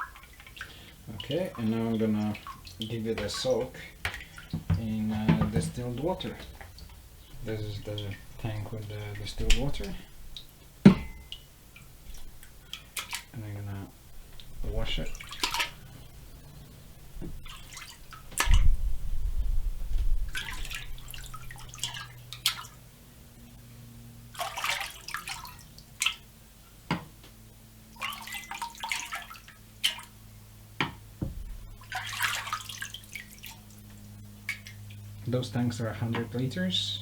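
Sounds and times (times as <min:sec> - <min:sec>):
water splashing and dripping: 0:00.0 - 0:19.0, 0:19.9 - 0:22.8, 0:24.3 - 0:26.3, 0:27.9 - 0:30.2, 0:31.2 - 0:35.2
faint steady hum: 0:00.0 - 0:37.0.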